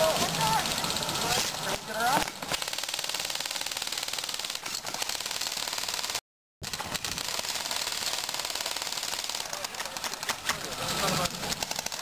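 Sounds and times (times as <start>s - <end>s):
airsoft guns firing: 0.0s - 12.0s.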